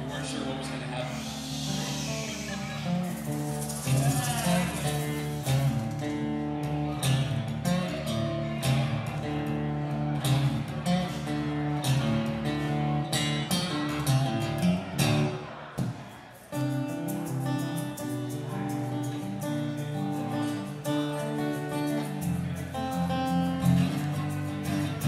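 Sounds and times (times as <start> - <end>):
acoustic guitar plucked chords: 0.0 - 25.0.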